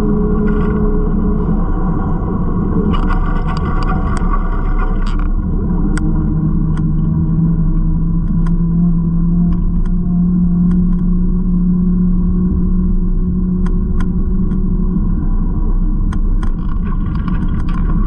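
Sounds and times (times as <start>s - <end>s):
bicycle riding rumble: 0.0s - 18.0s.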